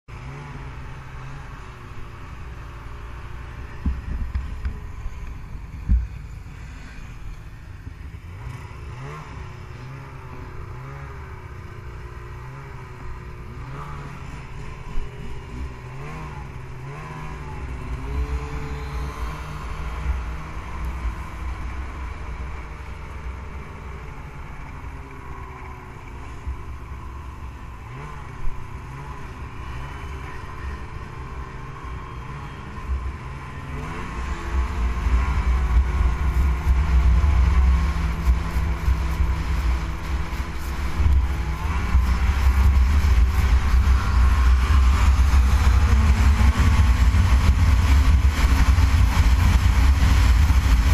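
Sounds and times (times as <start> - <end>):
snowmobile engine running: 0.1 - 50.9.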